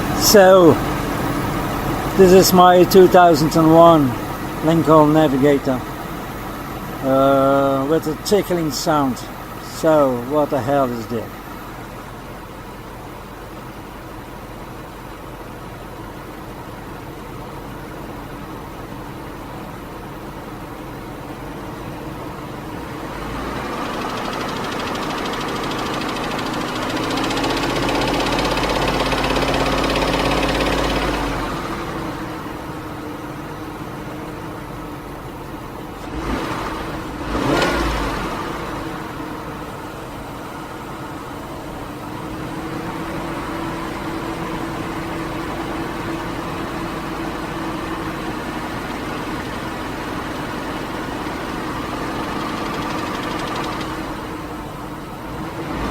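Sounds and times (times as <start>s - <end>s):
car engine revving and idling: 0.0s - 55.9s
engine ticking noise: 0.0s - 55.9s.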